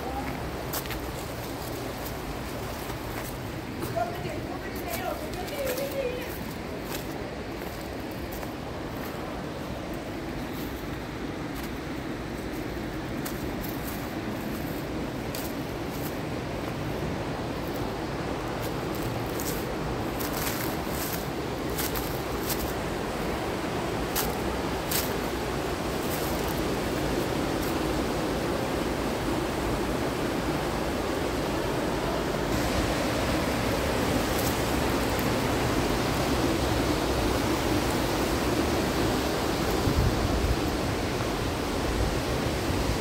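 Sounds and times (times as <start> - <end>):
mountain stream rushing: 0.0 - 43.0.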